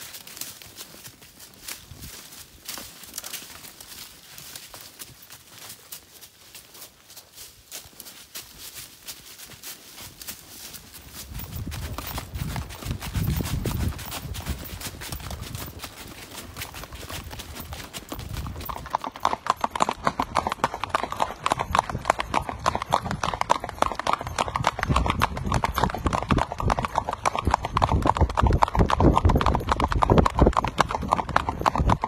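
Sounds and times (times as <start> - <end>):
hooves clip-clopping: 0.0 - 32.0.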